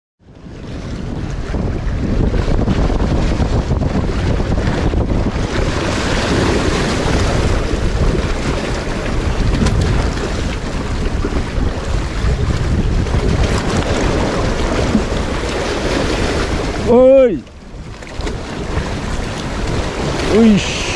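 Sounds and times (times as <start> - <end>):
wind buffeting microphone: 0.2 - 20.9
sea waves washing against rocks: 0.3 - 20.9.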